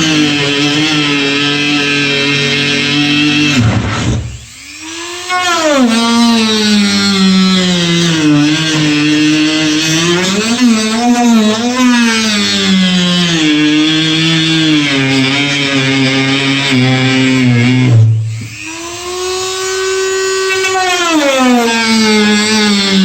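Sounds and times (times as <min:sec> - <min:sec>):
rotary tool cutting whine: 0:00.0 - 0:23.0.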